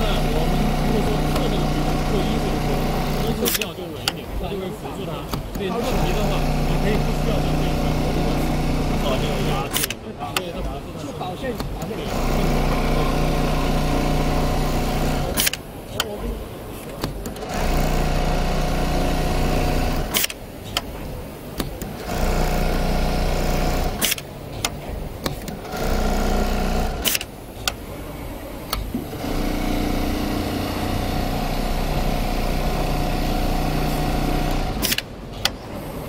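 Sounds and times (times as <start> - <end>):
sewing machine stitching: 0.0 - 4.2, 5.3 - 10.8, 11.5 - 16.2, 17.0 - 20.4, 21.6 - 27.3, 28.8 - 36.0
sharp machine clicks: 0.0 - 27.8, 28.7 - 35.8.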